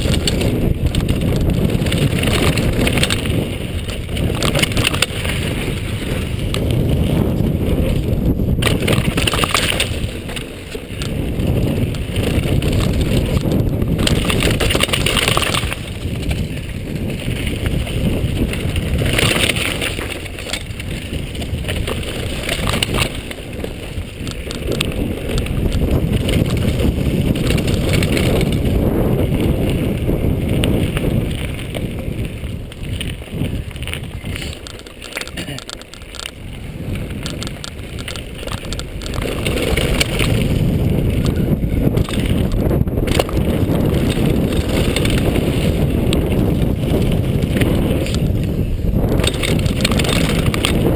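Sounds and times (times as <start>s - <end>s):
bike rattling: 0.0s - 50.9s
tyres rolling over gravel: 0.0s - 50.9s
wind rushing over camera: 0.0s - 50.9s.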